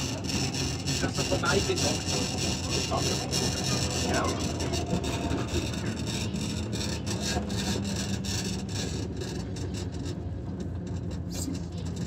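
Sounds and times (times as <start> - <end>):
low motor hum: 0.0 - 12.0
tram wheels rolling on rails: 0.0 - 12.0.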